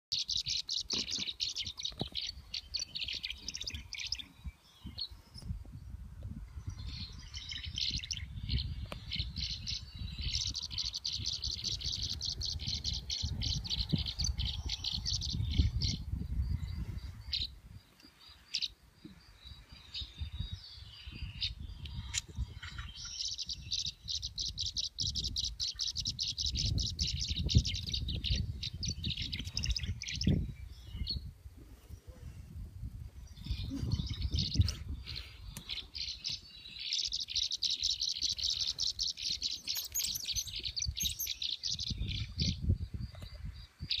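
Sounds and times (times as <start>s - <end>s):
swallows twittering: 0.1s - 5.5s, 6.5s - 32.2s, 33.1s - 44.0s.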